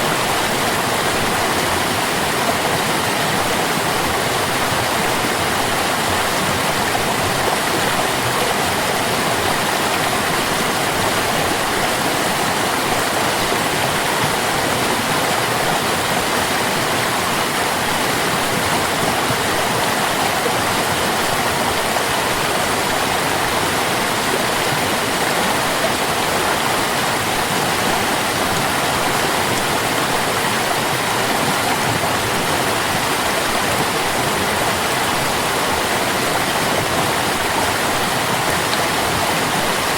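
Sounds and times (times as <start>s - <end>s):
water stream rushing: 0.0s - 39.9s.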